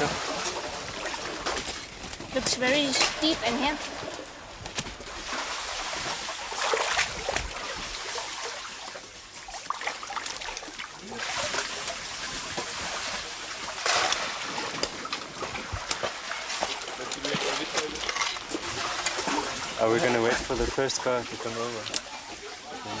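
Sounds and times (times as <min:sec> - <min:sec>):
water splashing and trickling: 0:00.0 - 0:23.0.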